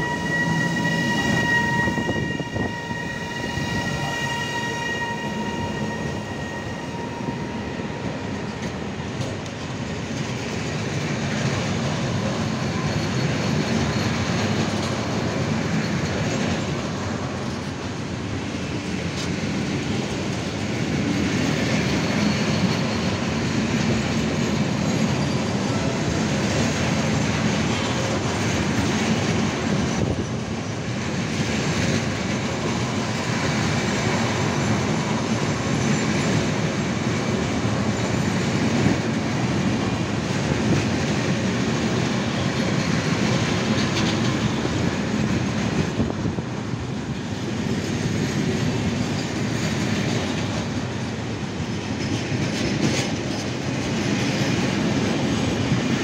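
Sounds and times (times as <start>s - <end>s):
steel wheels running on rails: 0.0s - 56.0s.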